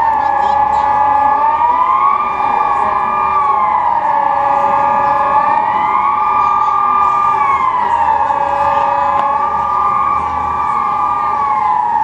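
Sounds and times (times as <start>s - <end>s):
civil defence sirens wailing: 0.0s - 12.0s.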